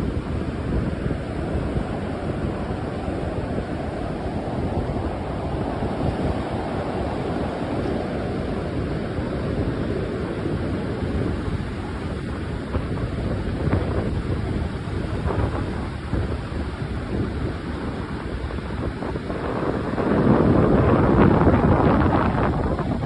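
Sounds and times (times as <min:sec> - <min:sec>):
ocean surf: 0:00.0 - 0:23.0
wind blowing across microphone: 0:00.0 - 0:23.0.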